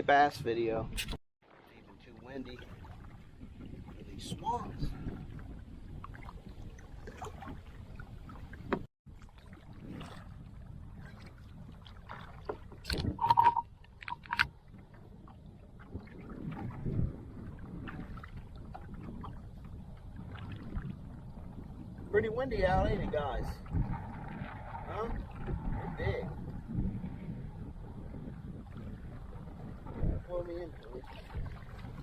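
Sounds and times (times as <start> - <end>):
wind buffeting microphone: 2.0 - 32.0.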